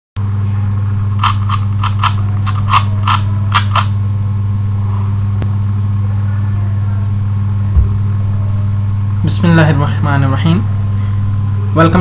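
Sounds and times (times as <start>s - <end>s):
low electrical hum: 0.2s - 12.0s.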